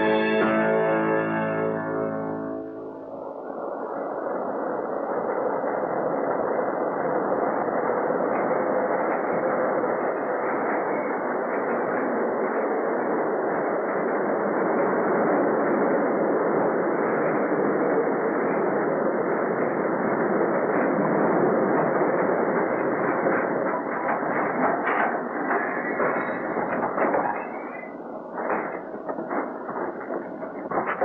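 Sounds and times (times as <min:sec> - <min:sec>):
elevated train roaring: 0:00.0 - 0:31.0.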